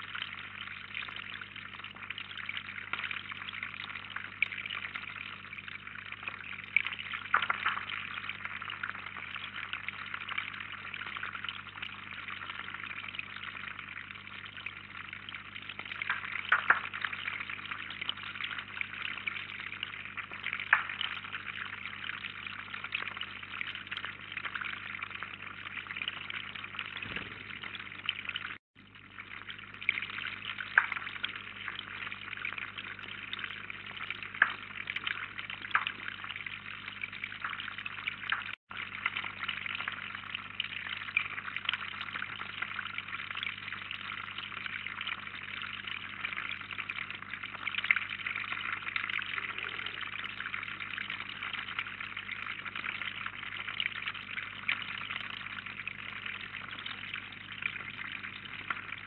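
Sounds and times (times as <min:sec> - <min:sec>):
low electrical hum: 0:00.0 - 0:59.0
water drips and splashes: 0:00.0 - 0:59.0
water trickling into pond: 0:00.0 - 0:59.0.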